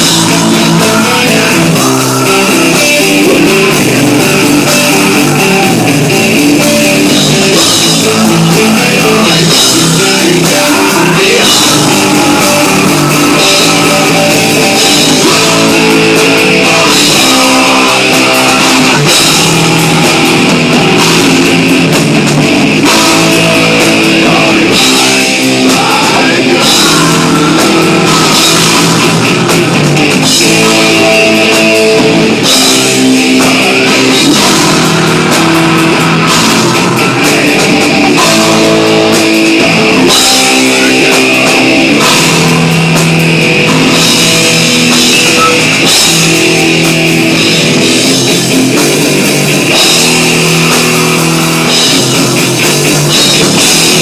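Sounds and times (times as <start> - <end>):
loud rock music: 0.0 - 54.0.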